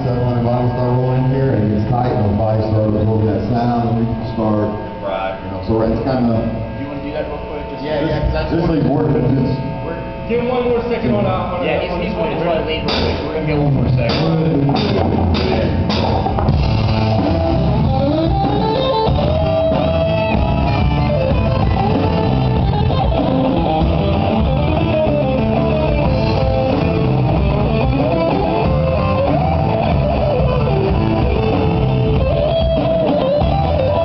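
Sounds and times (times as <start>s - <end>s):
electric guitar lead: 0.0s - 34.0s
rock band playing: 0.0s - 34.0s.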